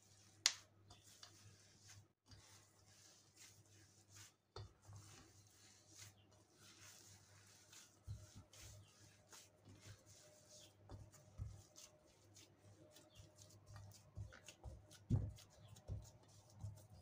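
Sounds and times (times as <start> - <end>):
dough crumbling and squishing: 0.0 - 17.0.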